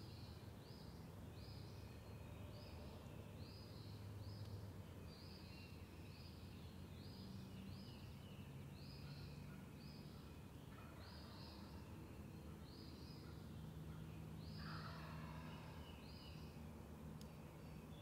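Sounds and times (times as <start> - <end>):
songbird singing faintly: 0.0 - 18.0.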